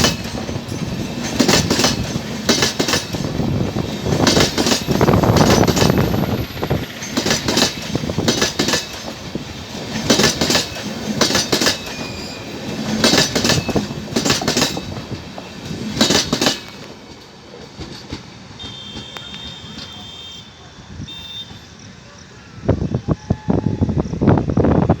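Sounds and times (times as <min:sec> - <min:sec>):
train wheels clacking over rail joints: 0:00.0 - 0:20.2
train rumble: 0:00.0 - 0:25.0.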